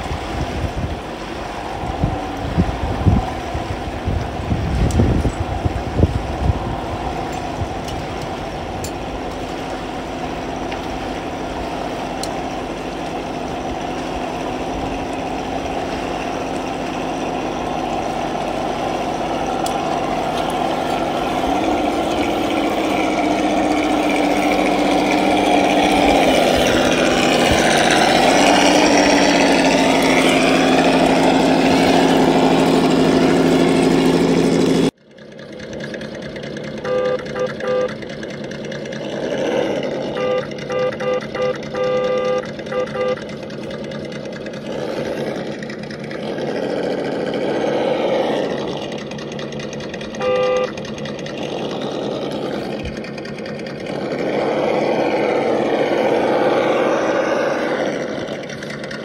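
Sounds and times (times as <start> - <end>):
simulated engine idling: 0.0 - 59.0.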